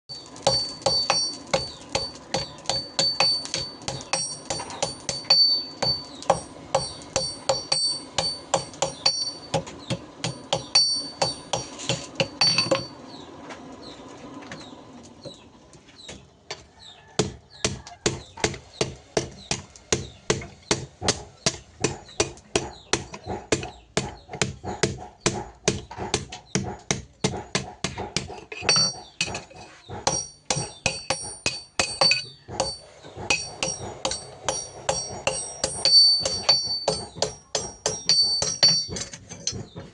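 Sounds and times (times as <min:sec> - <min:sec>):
hammer striking anvil: 0:00.1 - 0:13.0, 0:17.2 - 0:39.9.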